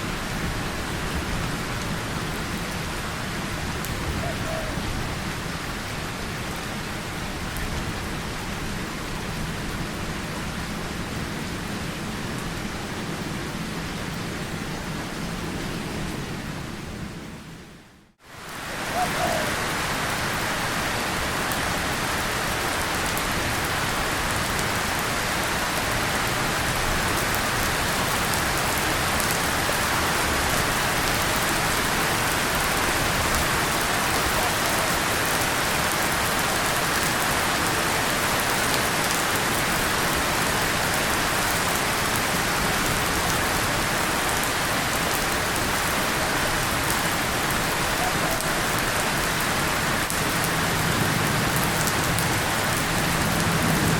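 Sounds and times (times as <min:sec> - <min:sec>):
rain on a tin surface: 0:00.0 - 0:17.1, 0:18.1 - 0:53.9.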